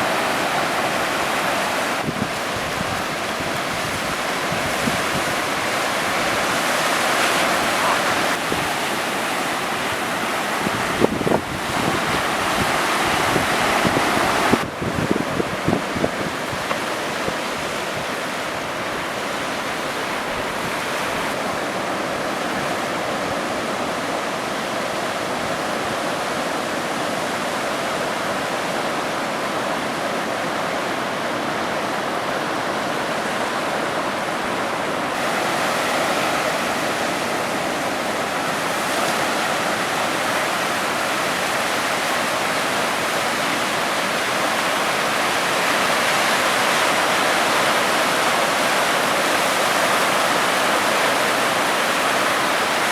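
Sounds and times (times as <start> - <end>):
ocean waves breaking: 0.0 - 52.9.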